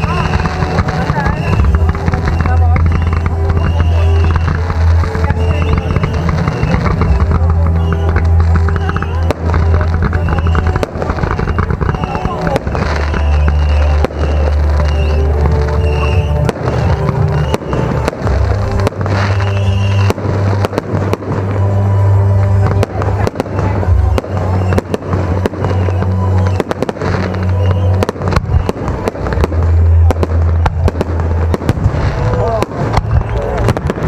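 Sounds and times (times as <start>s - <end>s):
fireworks bangs and crackles: 0.0s - 34.0s
music with deep bass: 0.0s - 34.0s.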